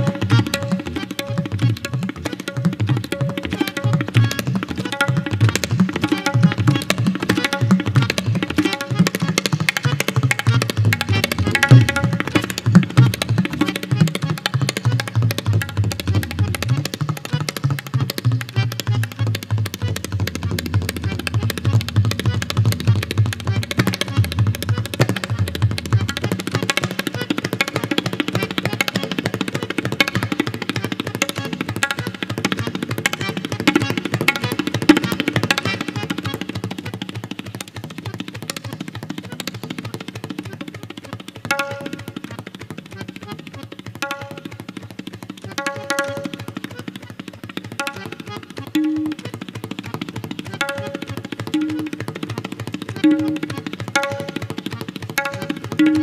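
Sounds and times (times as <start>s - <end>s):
tabla played fast: 0.0s - 56.0s.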